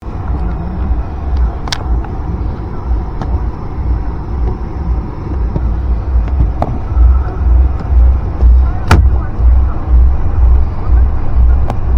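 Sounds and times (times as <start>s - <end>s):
car engine revving hard: 0.0s - 11.9s.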